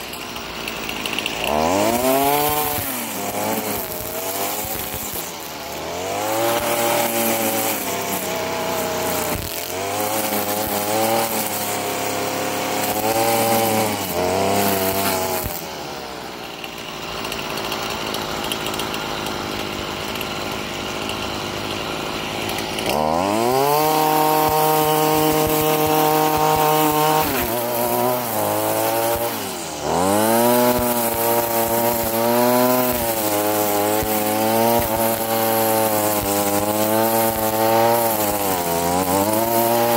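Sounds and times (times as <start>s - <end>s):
string trimmer engine revving: 0.0s - 39.9s.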